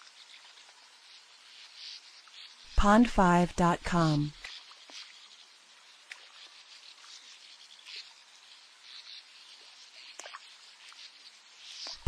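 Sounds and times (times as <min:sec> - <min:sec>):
high insect-like hiss: 0:00.0 - 0:02.8, 0:04.1 - 0:12.0.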